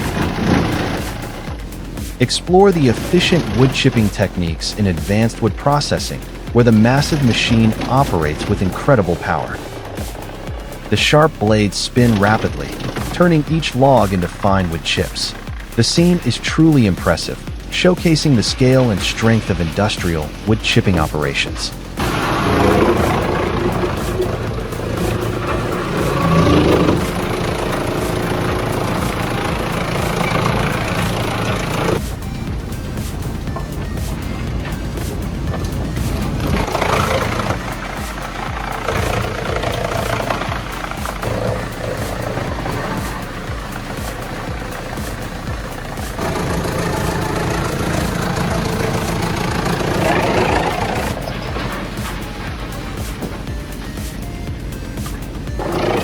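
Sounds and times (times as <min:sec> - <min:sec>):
industrial wood chipper running: 0:00.0 - 0:56.0.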